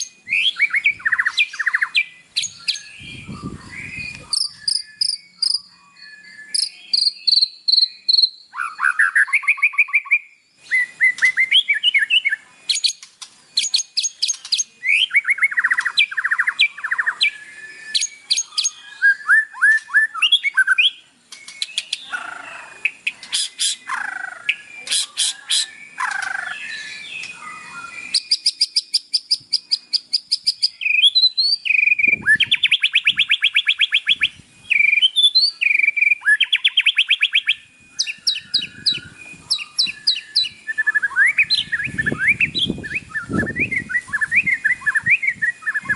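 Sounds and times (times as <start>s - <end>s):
songbird singing whistles and trills: 0.0s - 45.9s.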